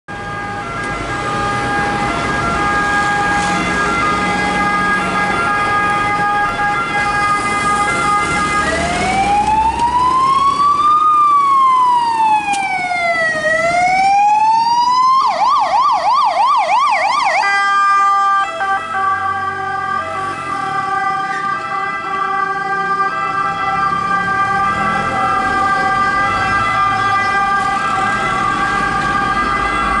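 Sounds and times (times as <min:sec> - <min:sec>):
ambulance siren: 0:00.1 - 0:30.0.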